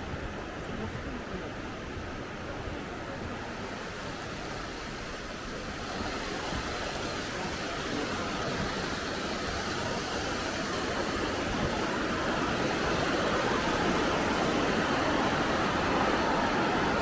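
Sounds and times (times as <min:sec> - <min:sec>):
water rushing: 0:00.8 - 0:17.0.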